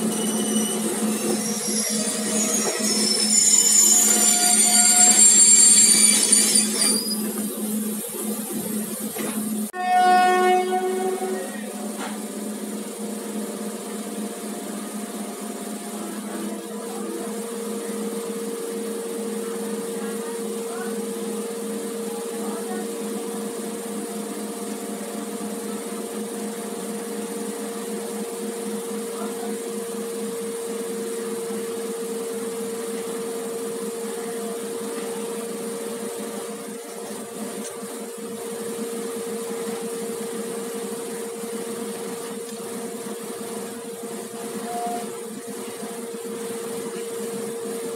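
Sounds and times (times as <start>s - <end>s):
constant whine: 0.0s - 47.9s
train mechanical hum: 0.0s - 47.9s.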